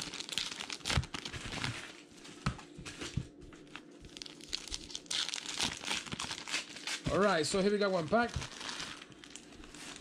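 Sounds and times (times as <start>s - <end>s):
plastic wrapper tearing and crinkling: 0.0s - 2.1s, 3.7s - 10.0s.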